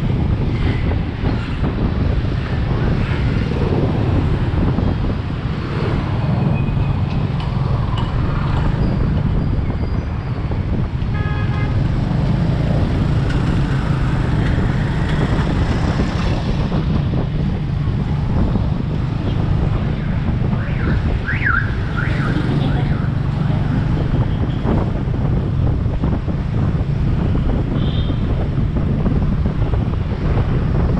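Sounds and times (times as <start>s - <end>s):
street traffic: 0.0s - 30.9s
wind buffeting microphone: 0.0s - 30.9s.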